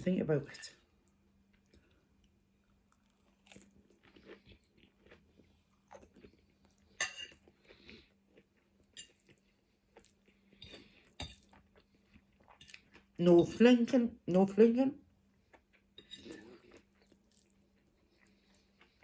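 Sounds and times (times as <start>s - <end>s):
person chewing crunchy food: 1.5s - 13.2s, 15.3s - 19.0s.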